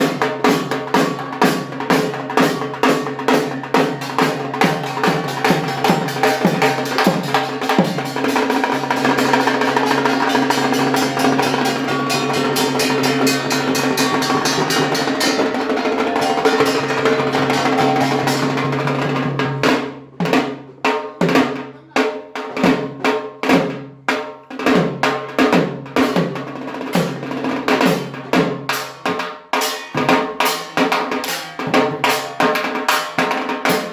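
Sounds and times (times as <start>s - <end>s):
barrel drum beaten with sticks: 0.0s - 33.9s.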